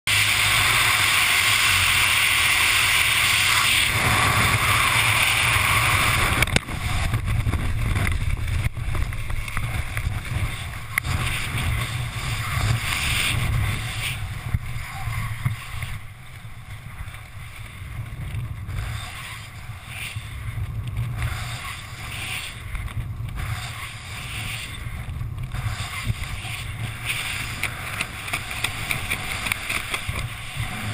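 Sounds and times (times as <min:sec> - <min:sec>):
wind rushing over microphone: 0:00.2 - 0:30.9
low rumble: 0:01.5 - 0:30.9.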